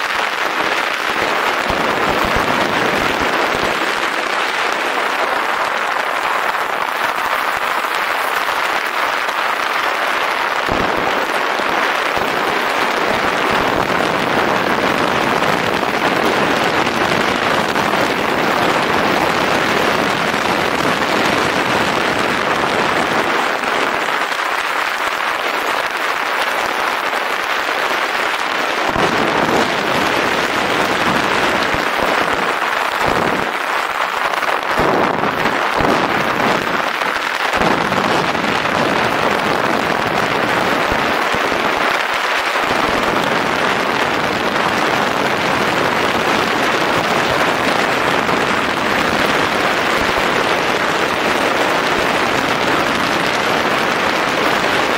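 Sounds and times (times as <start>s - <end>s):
bicycle tyres on rough track: 0.0s - 54.9s
wind on microphone: 0.4s - 24.4s, 28.2s - 54.6s.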